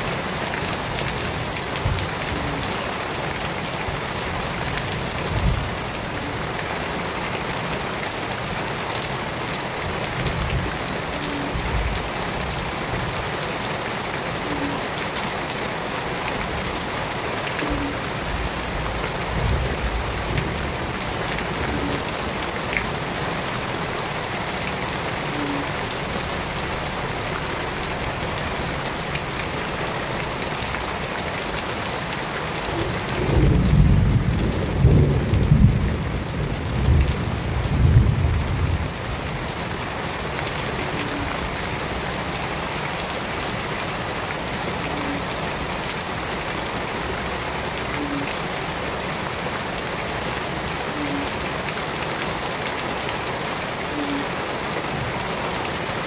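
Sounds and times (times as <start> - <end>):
rain splashing into puddle: 0.0 - 56.0.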